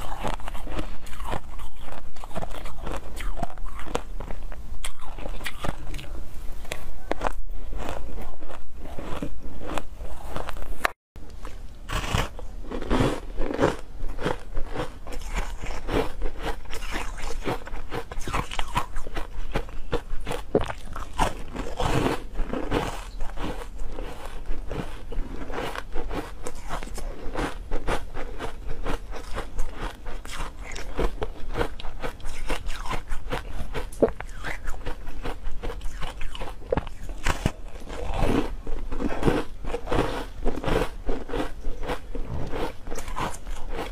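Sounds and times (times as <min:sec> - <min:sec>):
teeth crunching ice: 0:00.0 - 0:06.1, 0:11.9 - 0:43.9.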